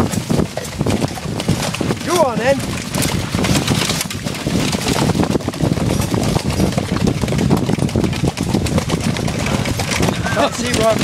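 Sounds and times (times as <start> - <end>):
carriage wheels rumbling and rattling: 0.0 - 11.0
horse hoofbeats: 0.0 - 11.0.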